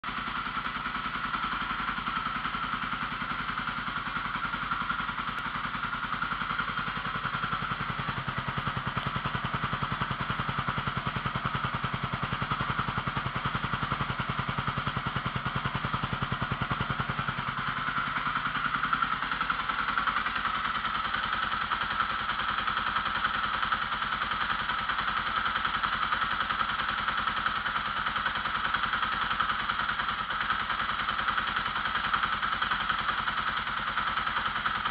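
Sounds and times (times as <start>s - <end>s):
dirt bike engine idling: 0.0s - 34.9s.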